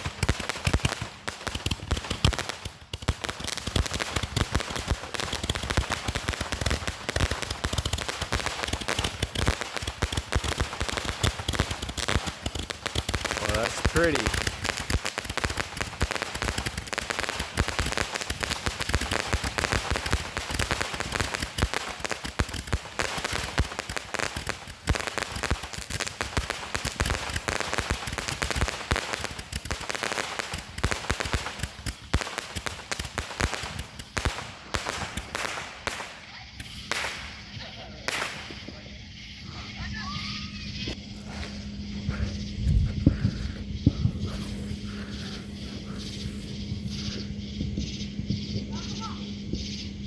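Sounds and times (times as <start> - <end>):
fireworks crackling and banging: 0.0 - 50.0.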